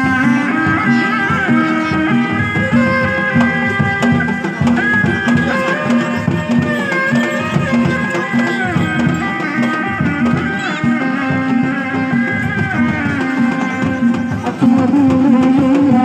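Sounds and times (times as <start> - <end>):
drums beating quick pulse: 0.0 - 16.0
high wavering melody line: 0.0 - 16.0.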